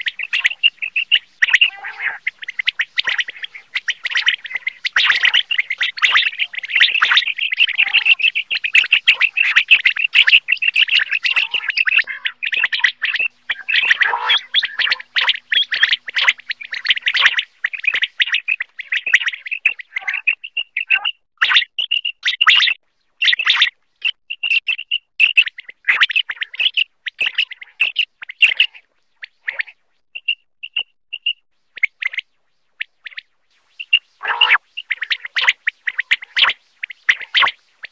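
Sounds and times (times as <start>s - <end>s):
quail calling: 0.0s - 32.2s, 33.8s - 37.9s.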